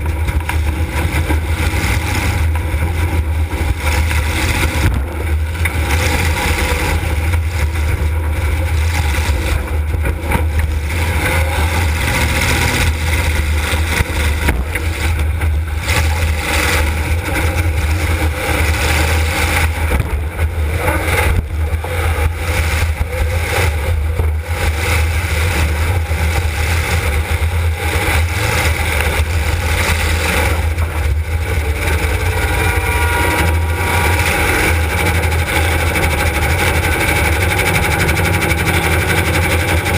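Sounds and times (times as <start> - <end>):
car engine deep rumble: 0.0 - 39.9.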